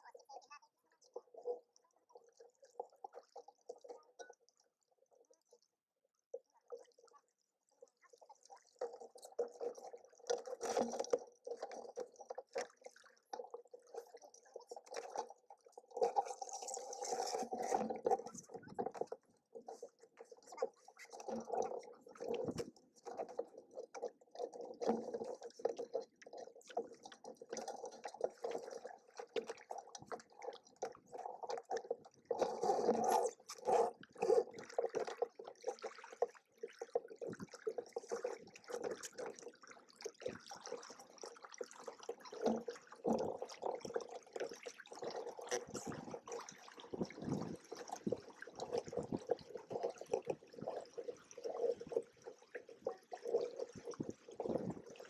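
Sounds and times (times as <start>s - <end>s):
water splashing against hulls: 8.4s - 55.0s.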